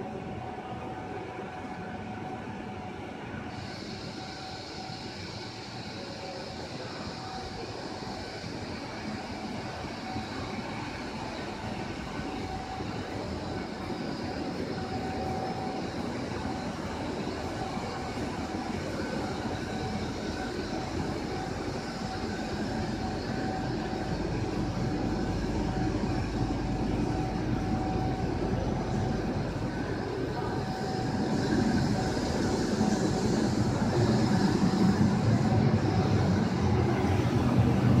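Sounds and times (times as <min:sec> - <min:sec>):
factory machinery running: 0:00.0 - 0:38.0
faint steady whine: 0:00.0 - 0:38.0.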